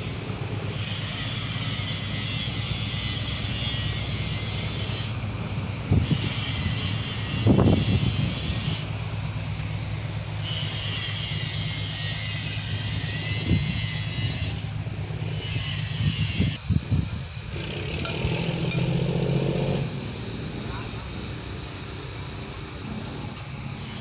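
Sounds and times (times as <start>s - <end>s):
diesel engines humming: 0.0s - 24.0s.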